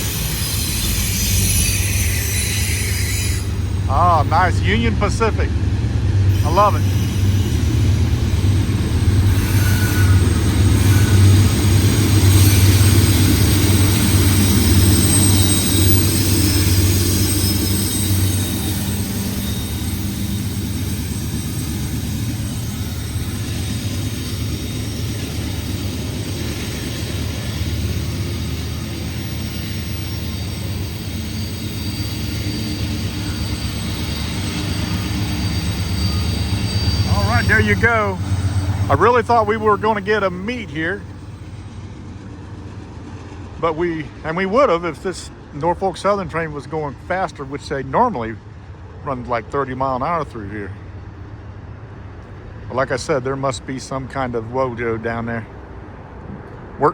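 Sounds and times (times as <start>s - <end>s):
diesel locomotive engine drone: 0.0s - 56.9s.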